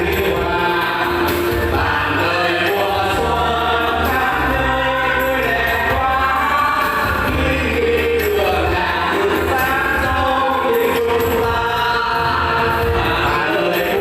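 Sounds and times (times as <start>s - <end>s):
group of people singing: 0.0s - 14.0s
instrumental backing with bass line: 0.0s - 14.0s.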